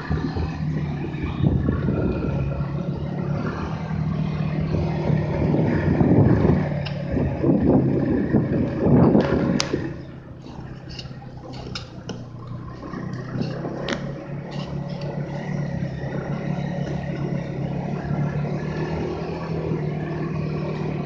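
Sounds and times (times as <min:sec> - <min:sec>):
snowmobile engine droning: 0:00.0 - 0:21.0.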